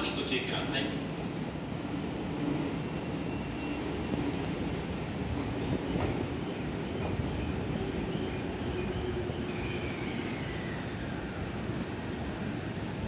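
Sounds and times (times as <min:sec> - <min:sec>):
electric train humming: 0:01.0 - 0:13.0.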